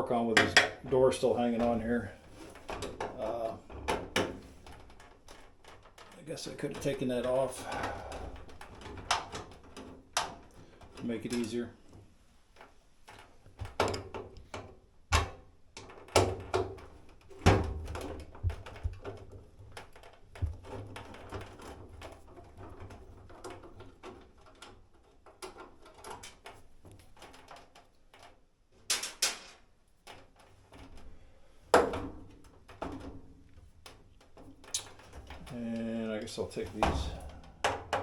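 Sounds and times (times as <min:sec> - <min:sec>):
clicks and taps of metal and plastic: 0:00.4 - 0:00.8, 0:01.5 - 0:31.1, 0:31.7 - 0:38.0.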